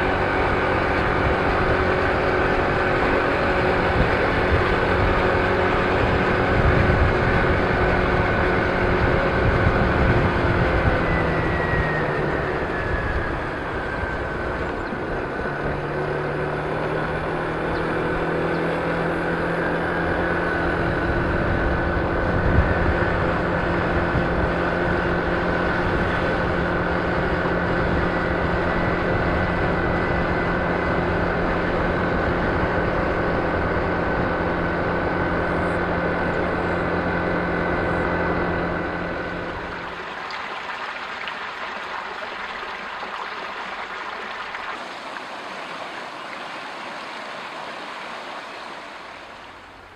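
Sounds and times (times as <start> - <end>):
scooter engine whining: 0.0 - 40.2
road and wind noise: 0.0 - 49.9.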